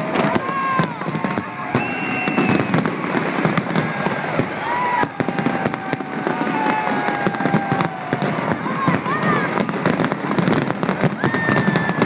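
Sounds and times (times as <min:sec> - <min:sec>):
fireworks bangs and crackles: 0:00.0 - 0:12.0
fireworks whistling: 0:00.0 - 0:12.0.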